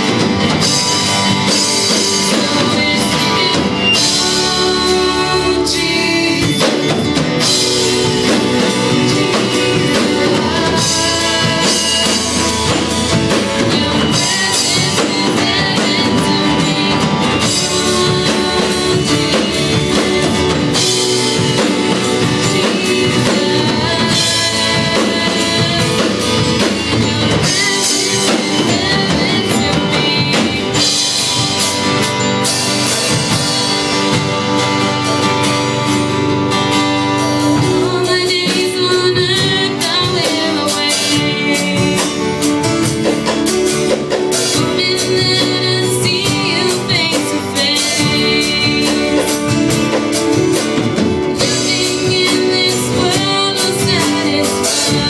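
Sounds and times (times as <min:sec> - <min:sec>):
woman singing into a microphone: 0:00.0 - 0:32.0, 0:36.6 - 0:55.0
keyboard: 0:00.0 - 0:55.0
strummed acoustic guitars: 0:00.0 - 0:55.0.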